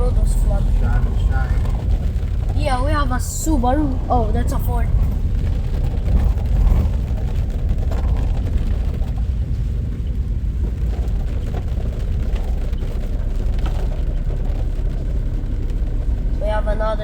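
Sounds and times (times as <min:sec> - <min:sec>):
heavy rain: 0:00.0 - 0:17.0
passing road traffic: 0:00.0 - 0:17.0.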